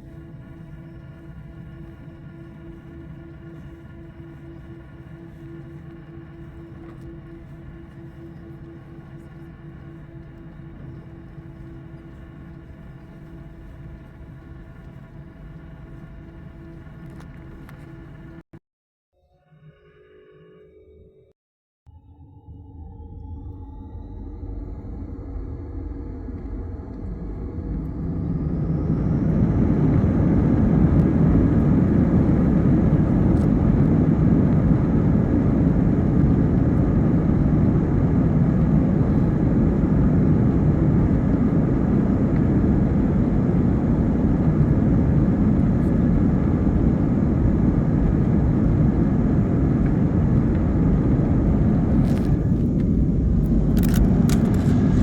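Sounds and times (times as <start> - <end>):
airliner engines rumbling: 0.0 - 18.5, 22.8 - 55.0.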